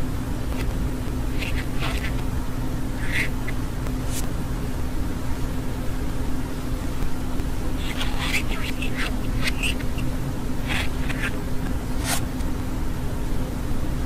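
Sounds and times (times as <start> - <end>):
low droning hum: 0.0 - 13.7.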